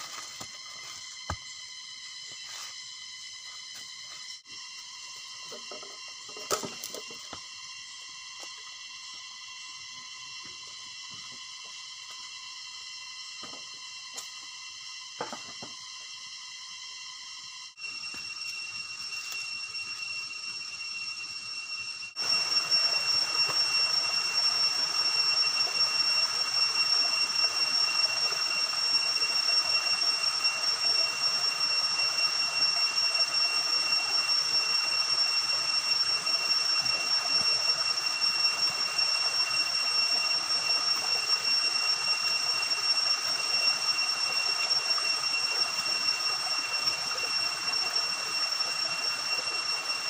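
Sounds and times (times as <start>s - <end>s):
high-pitched whine: 0.0s - 50.0s.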